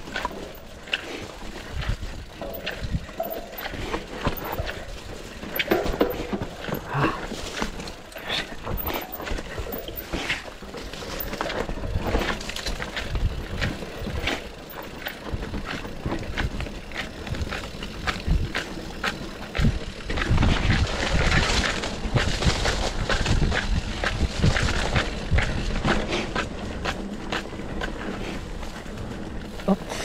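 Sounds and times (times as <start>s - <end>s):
mountain bike clattering over rocks: 0.0s - 30.0s
rough rumble: 0.0s - 30.0s.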